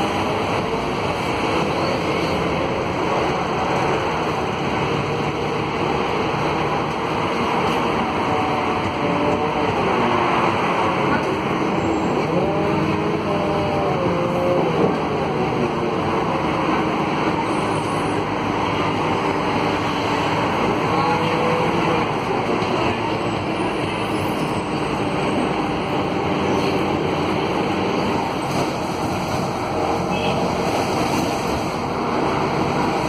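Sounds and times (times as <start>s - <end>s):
bus diesel engine running: 0.0s - 33.0s
road noise: 0.0s - 33.0s.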